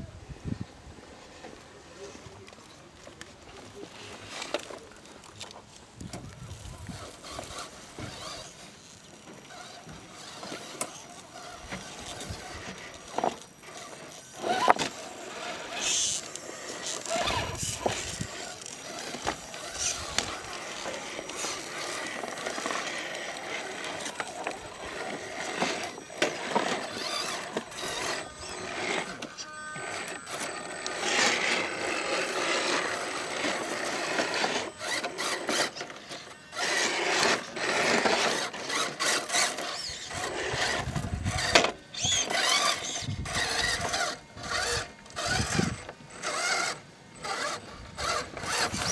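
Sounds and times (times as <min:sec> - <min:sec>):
small electric motors whirring: 0:00.3 - 0:48.9
tyres scraping on stone: 0:06.9 - 0:48.9.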